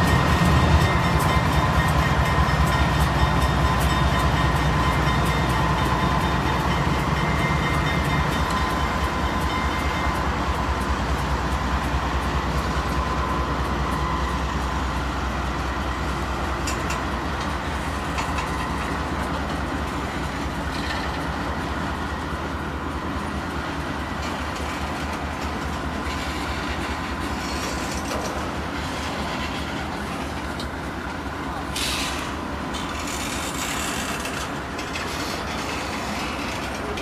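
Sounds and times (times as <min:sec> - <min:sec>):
diesel locomotive rumble: 0:00.0 - 0:37.0
train wheels clicking on rails: 0:00.0 - 0:37.0.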